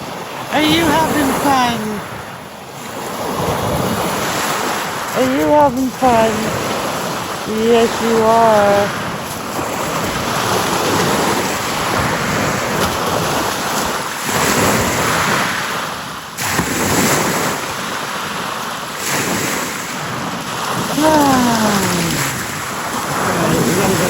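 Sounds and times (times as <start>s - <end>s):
waves washing on shore: 0.0s - 24.0s.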